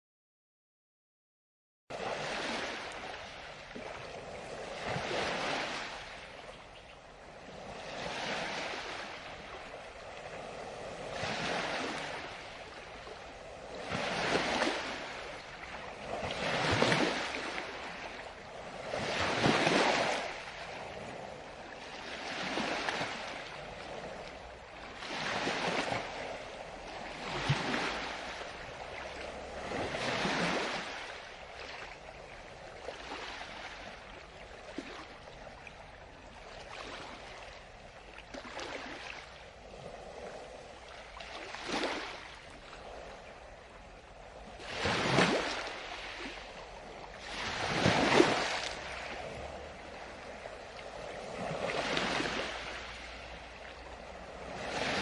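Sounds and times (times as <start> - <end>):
waves breaking on a beach: 1.9 - 55.0.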